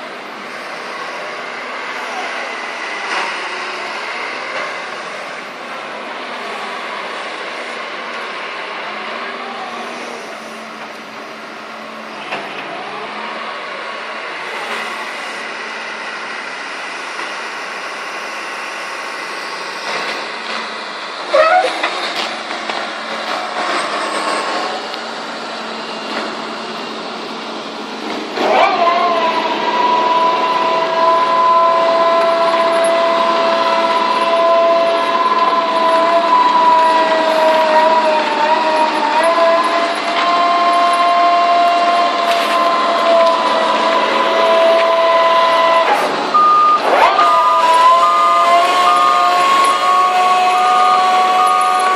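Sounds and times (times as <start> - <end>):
diesel engine running: 0.0 - 51.9
high-pitched whine: 0.0 - 51.9.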